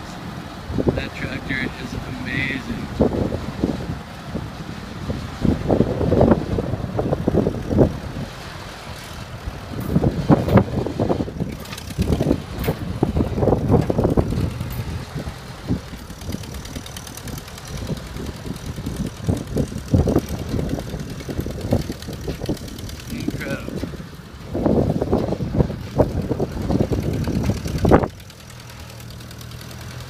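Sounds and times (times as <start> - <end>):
tractor engine running unevenly: 0.0 - 30.0.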